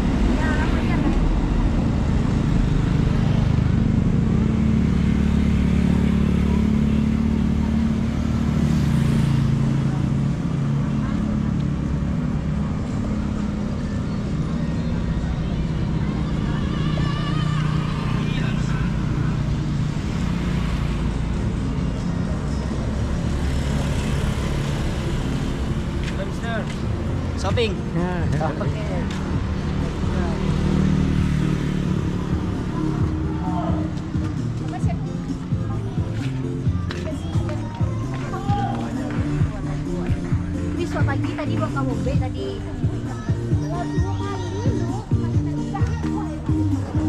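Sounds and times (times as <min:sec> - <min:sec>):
street traffic: 0:00.0 - 0:47.0
vehicle engine running: 0:00.0 - 0:47.0.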